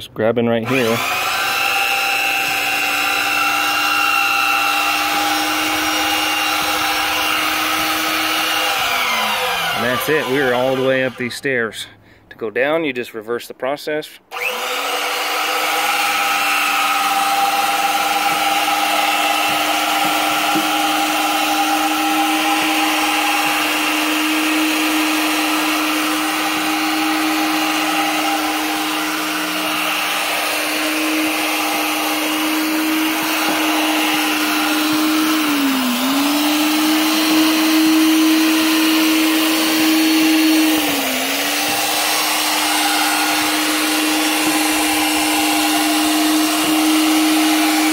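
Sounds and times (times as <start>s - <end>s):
drill motor whine: 0.6s - 11.3s, 14.3s - 47.9s.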